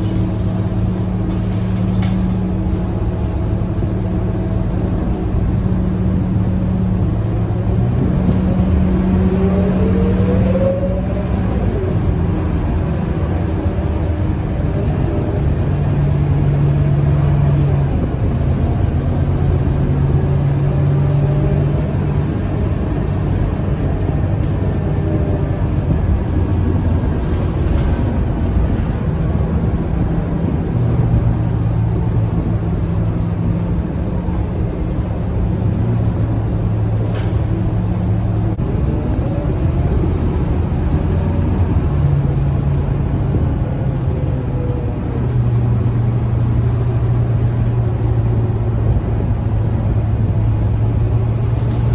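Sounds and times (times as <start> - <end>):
bus engine drone: 0.0 - 51.9
road rumble: 0.0 - 51.9.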